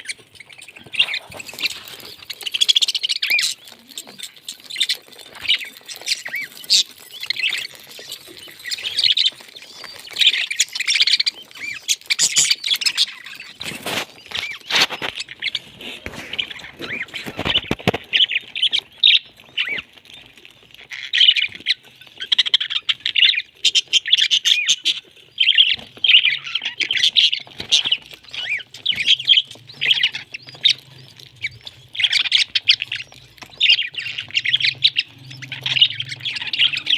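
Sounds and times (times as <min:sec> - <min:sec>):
parrot chirping and squawking: 0:00.0 - 0:19.9, 0:20.8 - 0:36.9.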